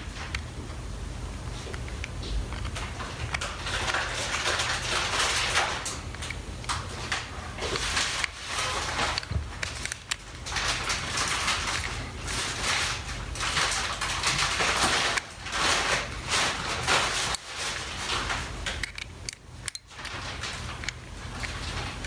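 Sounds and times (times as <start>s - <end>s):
scraping and crackling of prying: 1.7s - 22.0s.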